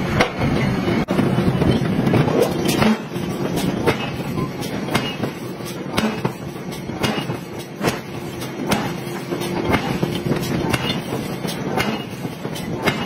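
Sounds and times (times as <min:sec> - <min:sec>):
machinery clattering: 0:00.0 - 0:13.0
sharp metallic clanks: 0:00.0 - 0:13.0.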